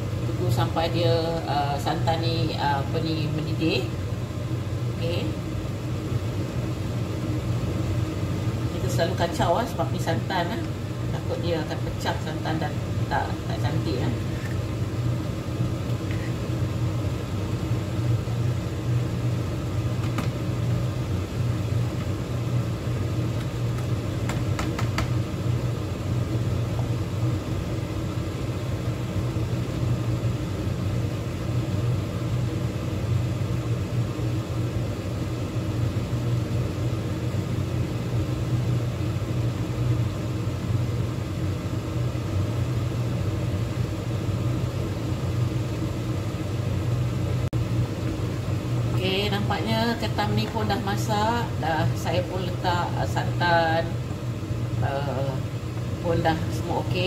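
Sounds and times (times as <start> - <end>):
low mechanical rumble: 0.0 - 57.0.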